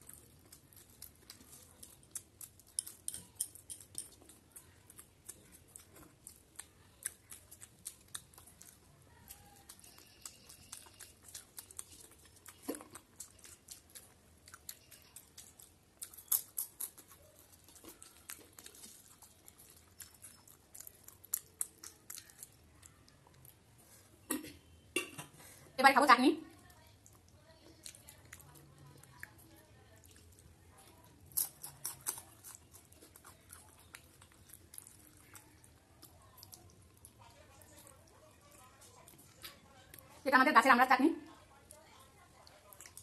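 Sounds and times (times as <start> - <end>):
chewing and mouth clicks: 0.0 - 25.4, 26.5 - 40.2, 41.3 - 43.0.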